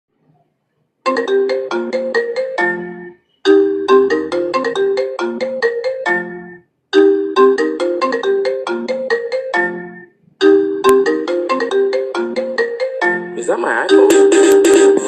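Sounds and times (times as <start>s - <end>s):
phone ringtone melody: 1.0s - 15.0s.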